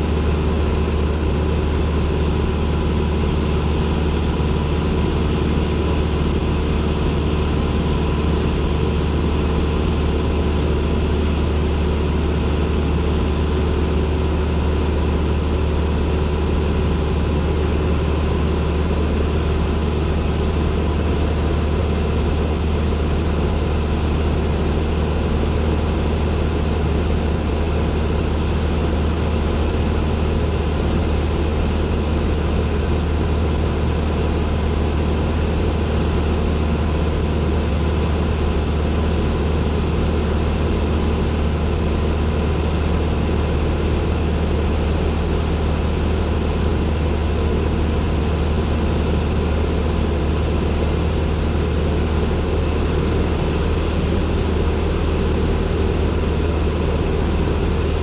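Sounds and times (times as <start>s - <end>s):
airplane engine and propeller hum: 0.0s - 58.0s.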